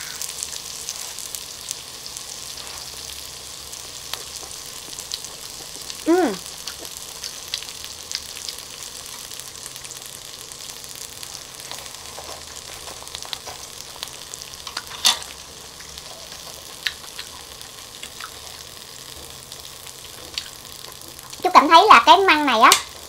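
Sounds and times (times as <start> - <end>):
food sizzling on grill pan: 0.0 - 23.0.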